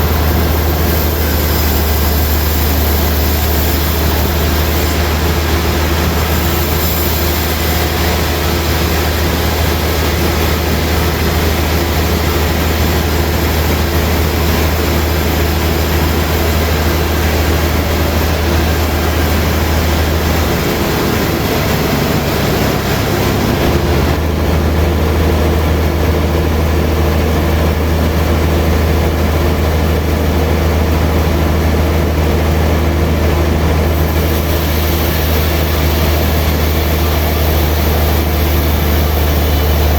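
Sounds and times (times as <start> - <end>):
broad whirring noise: 0.0 - 39.9
sawmill machinery humming: 0.0 - 39.9.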